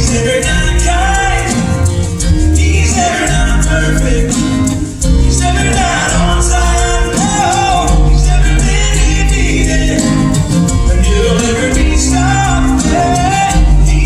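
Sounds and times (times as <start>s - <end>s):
acoustic band playing: 0.0s - 14.0s
person singing: 0.0s - 14.0s.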